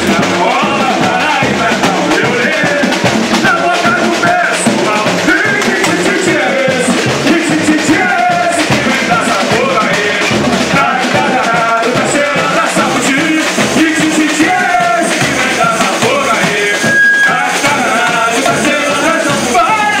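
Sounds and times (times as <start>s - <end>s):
samba drums playing: 0.0s - 20.0s
singing: 0.0s - 20.0s.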